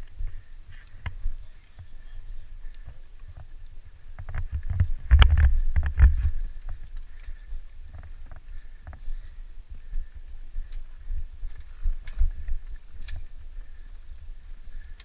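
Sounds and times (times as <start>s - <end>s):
dirt bike engine rumble: 0.0s - 15.0s
wind: 0.0s - 15.0s.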